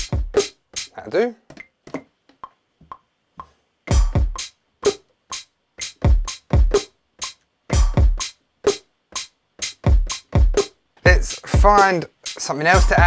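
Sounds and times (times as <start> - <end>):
electronic pop drum beat: 0.0 - 1.2, 1.9 - 13.0.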